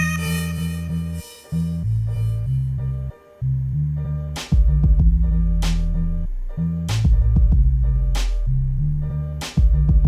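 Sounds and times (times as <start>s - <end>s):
steady low bass line: 0.0s - 10.0s.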